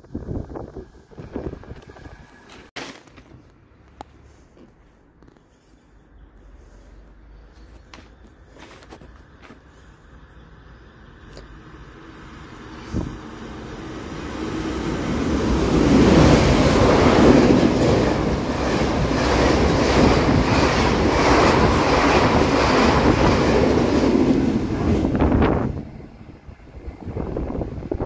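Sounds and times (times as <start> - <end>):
train wheels on rails: 0.0 - 5.7, 6.4 - 28.0.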